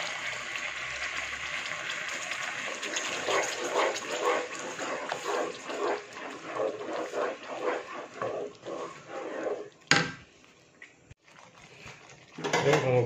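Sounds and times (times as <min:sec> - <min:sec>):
spatula stirring thick sauce: 0:01.6 - 0:12.7.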